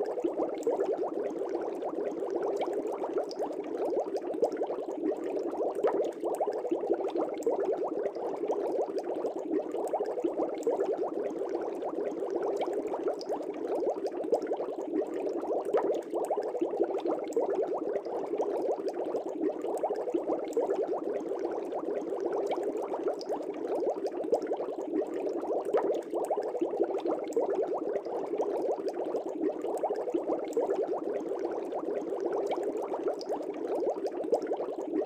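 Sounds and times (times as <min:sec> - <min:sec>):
aquarium water bubbling: 0:00.0 - 0:35.0.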